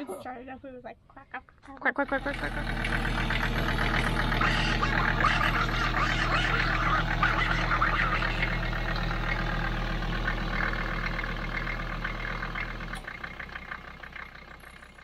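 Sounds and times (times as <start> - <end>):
car engine pulsing unevenly: 2.0 - 15.0.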